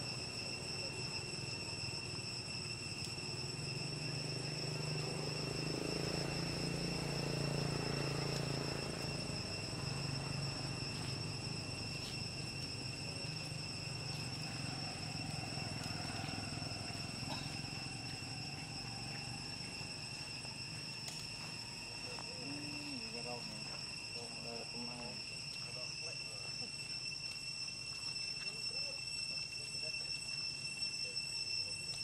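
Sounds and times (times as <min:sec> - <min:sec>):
low hum: 0:00.0 - 0:29.6
insect chorus: 0:00.0 - 0:32.0.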